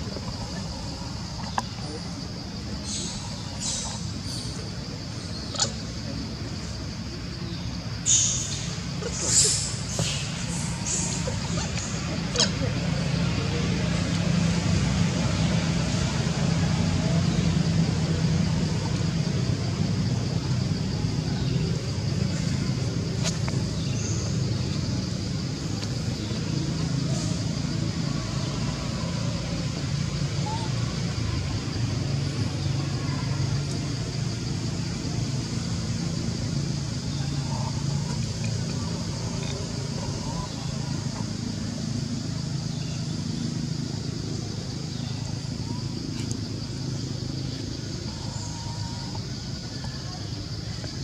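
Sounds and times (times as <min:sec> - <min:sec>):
background hiss: 0:00.0 - 0:49.8
outdoor background noise: 0:00.0 - 0:51.0
vehicle engine humming: 0:00.0 - 0:51.0.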